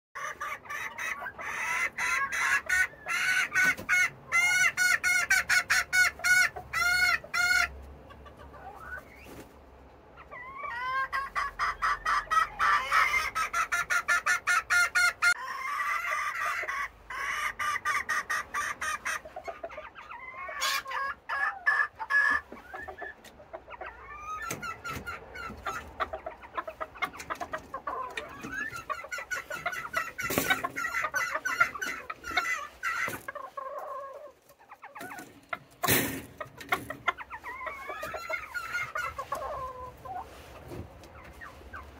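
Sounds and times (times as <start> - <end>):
hens clucking and cackling: 0.2 - 41.9.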